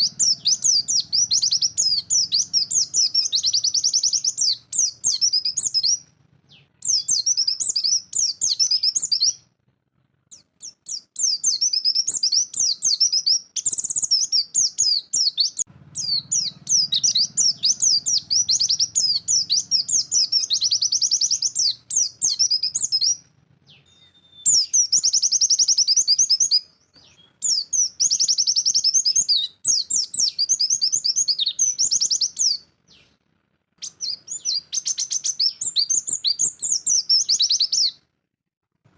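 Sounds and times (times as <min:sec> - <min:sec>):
bird singing fast high chirps: 0:00.0 - 0:09.5, 0:10.3 - 0:33.1, 0:33.8 - 0:38.0.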